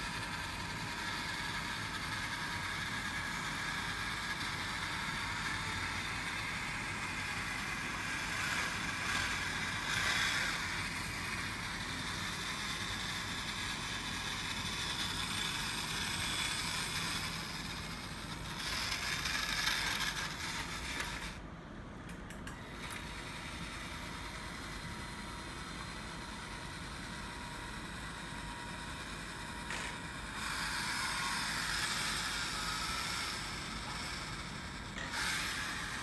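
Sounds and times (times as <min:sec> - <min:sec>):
model tank gearbox whirring: 0:00.0 - 0:21.4, 0:22.5 - 0:36.0.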